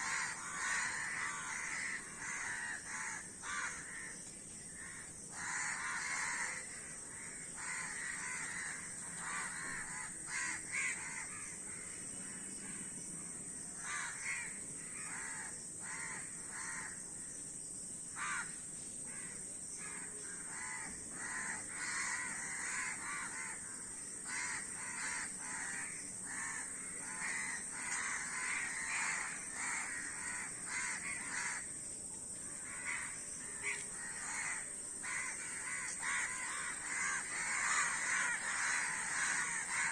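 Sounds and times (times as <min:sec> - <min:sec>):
crows cawing: 0:00.0 - 0:12.9, 0:13.8 - 0:17.0, 0:18.2 - 0:31.7, 0:32.5 - 0:39.9.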